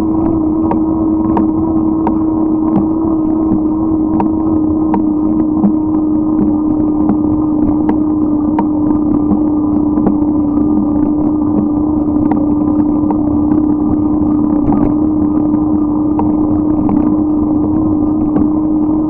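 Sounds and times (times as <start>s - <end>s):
bicycle riding rumble: 0.0s - 19.0s.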